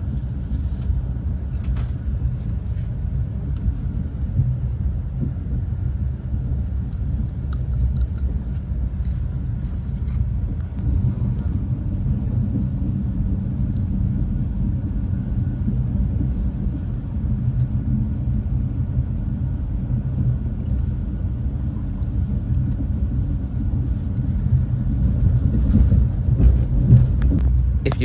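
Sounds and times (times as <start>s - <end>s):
train rumble from inside coach: 0.0s - 28.0s.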